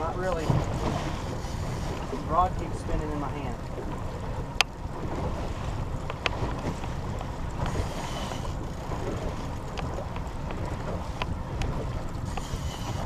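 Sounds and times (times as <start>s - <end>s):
water washing around boat: 0.0s - 13.0s
wind buffeting microphone: 0.0s - 13.0s.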